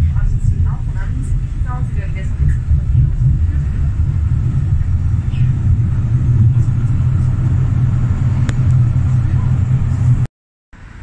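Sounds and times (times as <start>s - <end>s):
street noise rumble: 0.0s - 11.0s.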